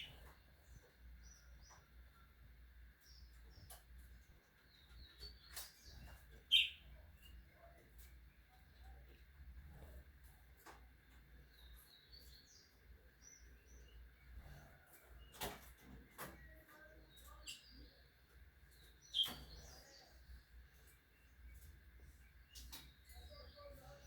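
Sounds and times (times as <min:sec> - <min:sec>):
faint bird chirps: 0:00.0 - 0:10.1, 0:11.1 - 0:24.0.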